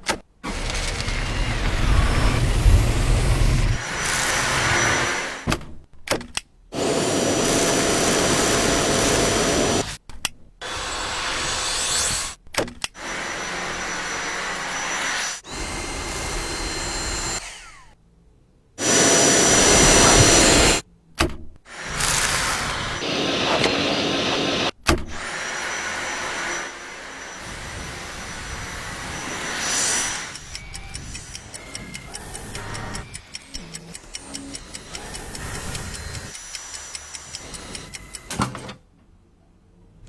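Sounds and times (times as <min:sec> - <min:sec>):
stick vacuum cleaner motor whine: 0:00.4 - 0:05.5, 0:06.8 - 0:10.0, 0:10.6 - 0:18.0, 0:18.8 - 0:20.8, 0:21.7 - 0:38.5.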